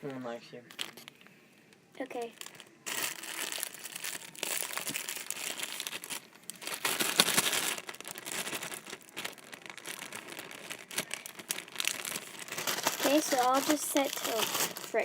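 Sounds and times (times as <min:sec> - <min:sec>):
slime squished and crackling: 0:02.0 - 0:15.0.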